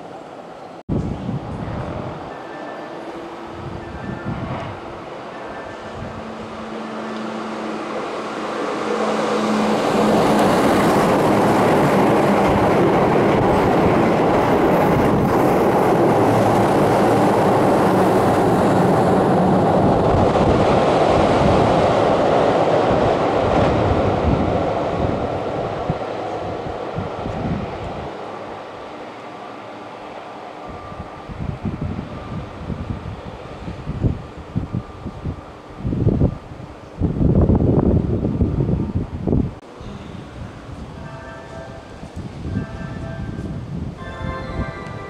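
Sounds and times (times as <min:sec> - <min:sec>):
train passing close by: 0:00.0 - 0:45.0.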